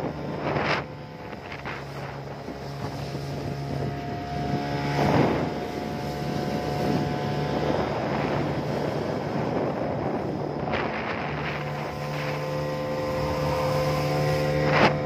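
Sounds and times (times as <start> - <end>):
speedboat engine drone: 0.0 - 15.0
water rushing: 0.0 - 15.0
wind buffeting microphone: 0.0 - 15.0.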